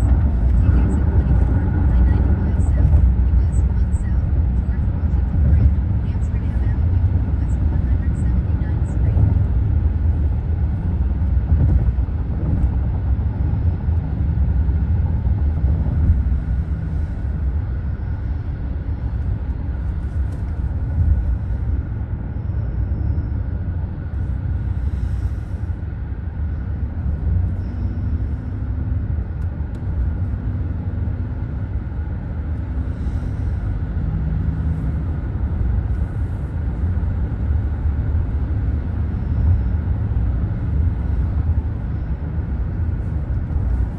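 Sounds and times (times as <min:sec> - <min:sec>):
car cabin road rumble: 0:00.0 - 0:43.9.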